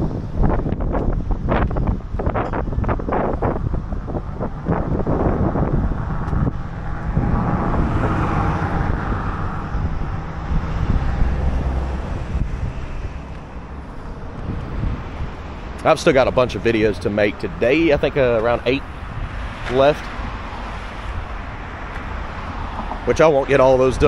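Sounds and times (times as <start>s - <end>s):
rushing noise: 0.0s - 24.0s
wind rumbling on microphone: 0.0s - 24.0s.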